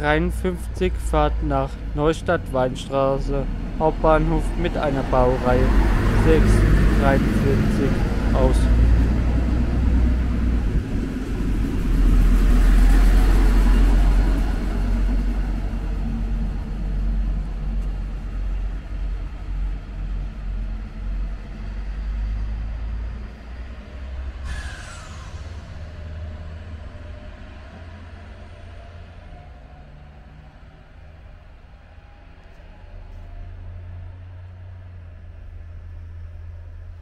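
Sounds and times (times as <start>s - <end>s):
diesel train engine rumble: 0.0s - 37.0s.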